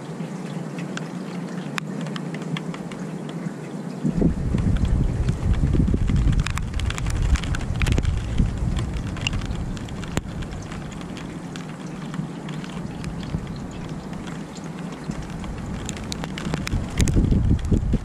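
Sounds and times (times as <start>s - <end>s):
raindrops ticking: 0.0s - 18.0s
steady rain falling: 0.0s - 18.0s
wind buffeting microphone: 1.0s - 18.0s.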